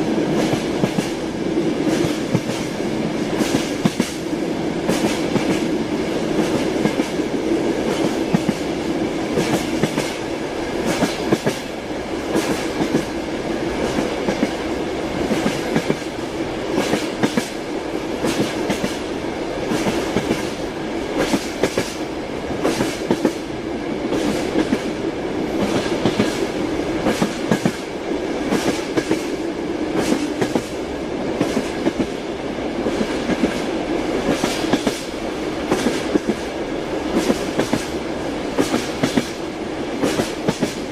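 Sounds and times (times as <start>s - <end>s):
train rumble: 0.0s - 40.9s.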